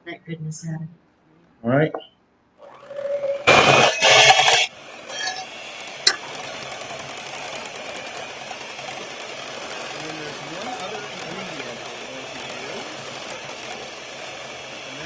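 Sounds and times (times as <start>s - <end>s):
electric hand mixer running: 2.6s - 15.0s.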